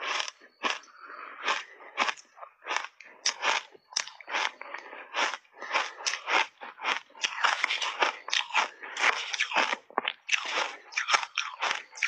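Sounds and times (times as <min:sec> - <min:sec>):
crunching of chewed ice: 0:00.0 - 0:12.0.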